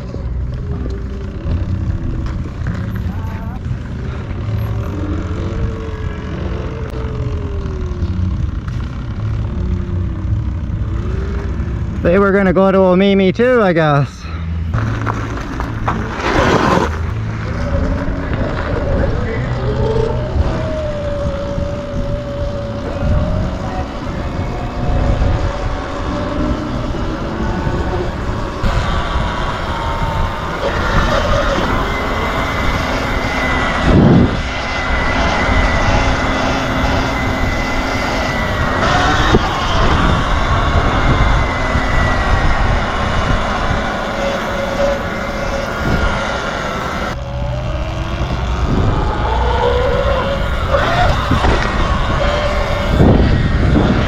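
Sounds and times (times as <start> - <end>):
electric motor whine: 0.0 - 12.4, 14.7 - 54.0
wind rumble on microphone: 0.0 - 12.5, 14.7 - 54.0.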